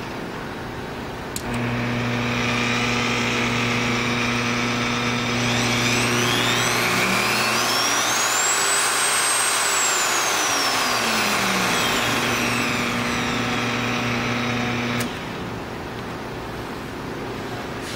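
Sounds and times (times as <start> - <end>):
drill press motor whine: 1.4 - 15.9.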